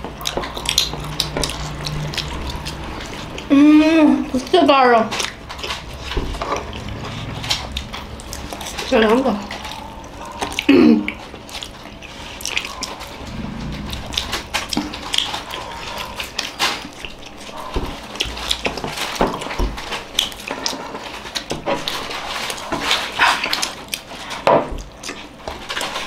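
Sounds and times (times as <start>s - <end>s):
wet chewing and lip-smacking: 0.0s - 3.5s, 5.1s - 13.2s, 14.7s - 26.0s.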